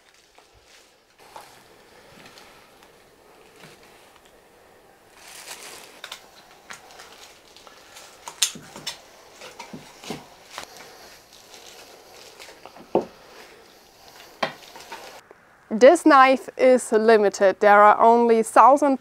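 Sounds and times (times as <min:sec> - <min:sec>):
soft rustling: 0:00.0 - 0:15.2.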